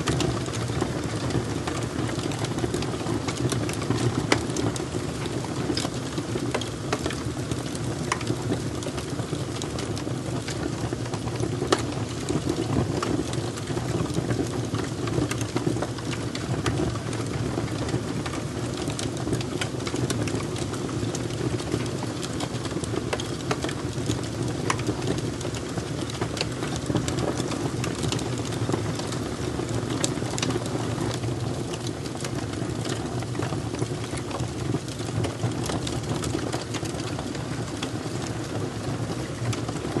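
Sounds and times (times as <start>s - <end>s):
fire crackling and popping: 0.0s - 40.0s.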